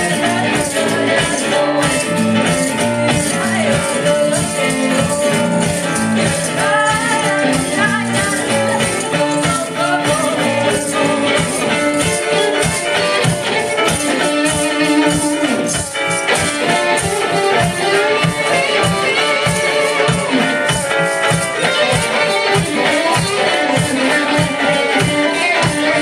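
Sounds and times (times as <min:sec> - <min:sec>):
guitar: 0:00.0 - 0:26.0
live rock band playing: 0:00.0 - 0:26.0
steady drum beat: 0:00.0 - 0:26.0.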